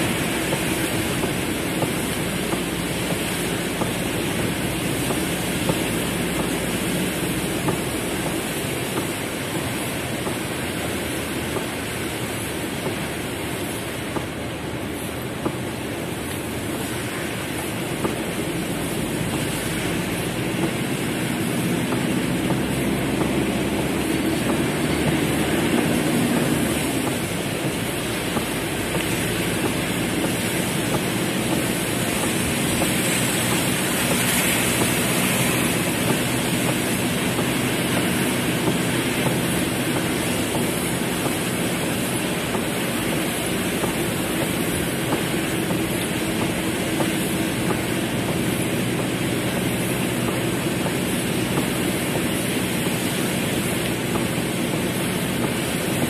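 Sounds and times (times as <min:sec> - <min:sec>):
heavy rain drumming on car roof: 0:00.0 - 0:56.0.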